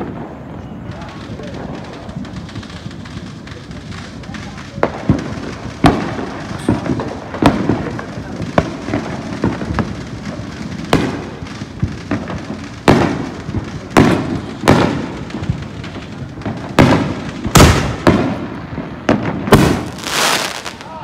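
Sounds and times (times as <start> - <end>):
fireworks bangs echoing: 0.0 - 21.0.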